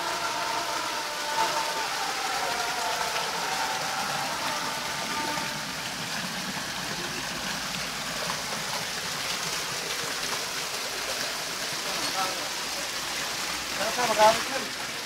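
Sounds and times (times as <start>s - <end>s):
water splashing onto stones: 0.0s - 15.0s.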